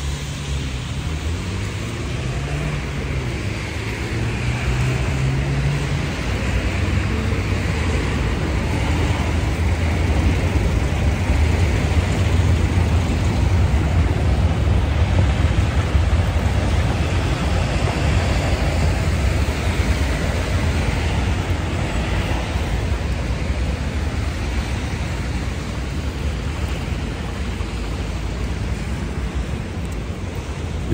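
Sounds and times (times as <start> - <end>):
cars passing with tyre hiss: 0.0 - 30.9.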